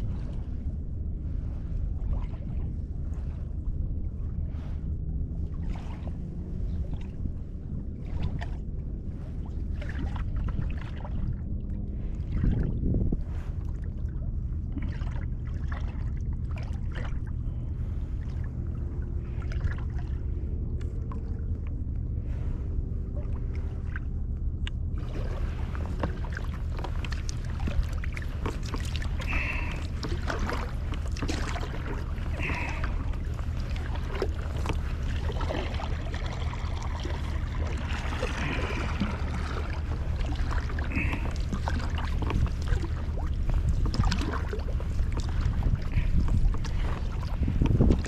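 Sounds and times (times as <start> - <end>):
steady low rumble: 0.0 - 48.0
water splashing against kayak hull: 4.3 - 48.0.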